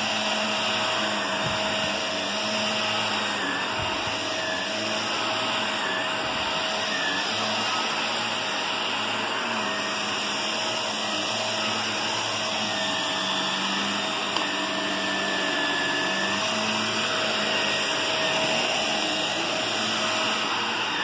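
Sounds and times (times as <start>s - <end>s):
vacuum cleaner on carpet: 0.0s - 21.0s.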